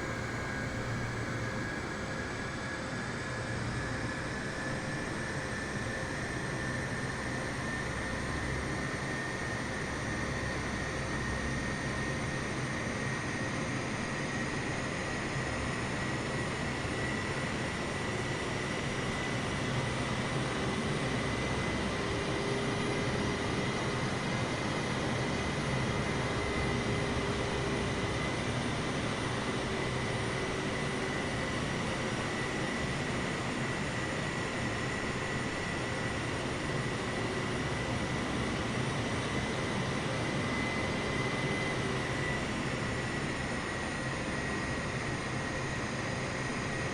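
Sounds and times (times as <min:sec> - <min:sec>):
jet engines with turbine whine: 0:00.0 - 0:46.9.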